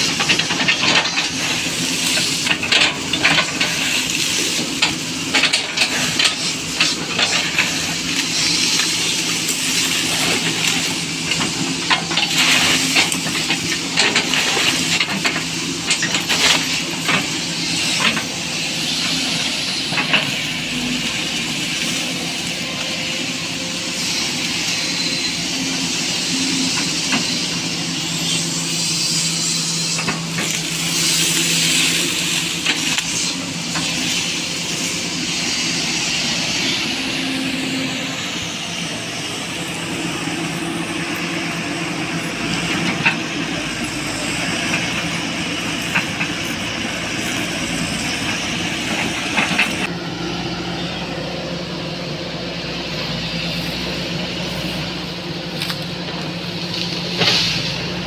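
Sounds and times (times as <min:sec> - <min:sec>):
excavator diesel engine running: 0:00.0 - 0:58.0
high hydraulic hiss: 0:00.0 - 0:58.0.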